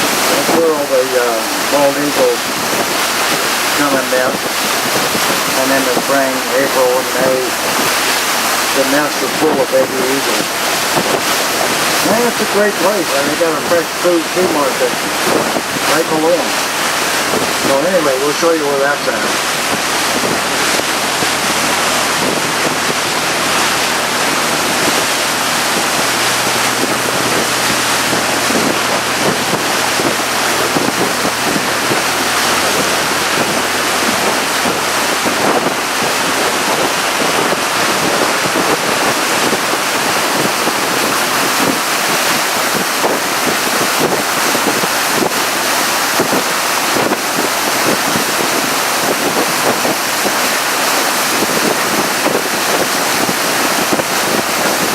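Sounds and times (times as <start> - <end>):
low boat engine hum: 0.0 - 54.9
water rushing past hull: 0.0 - 54.9
wind buffeting microphone: 0.0 - 54.9.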